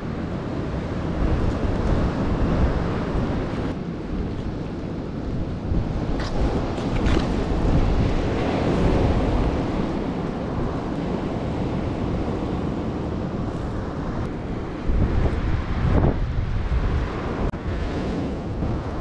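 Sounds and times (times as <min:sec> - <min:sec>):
ocean surf rushing: 0:00.0 - 0:19.0
wind buffeting microphone: 0:00.0 - 0:19.0.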